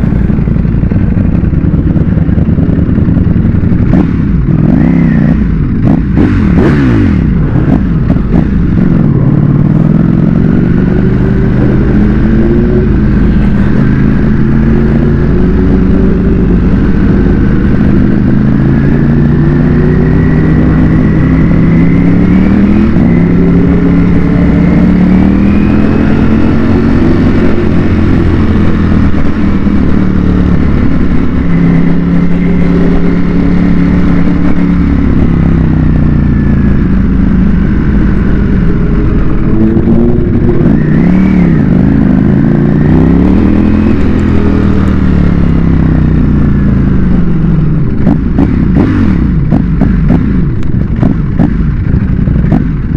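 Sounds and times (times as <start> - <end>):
motorcycle engine: 0.0 - 52.9.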